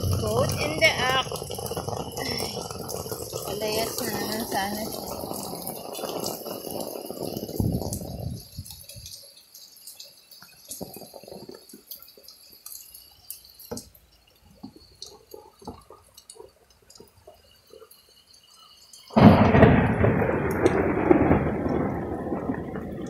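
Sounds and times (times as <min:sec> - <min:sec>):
water drips and splashes: 0:00.0 - 0:23.0.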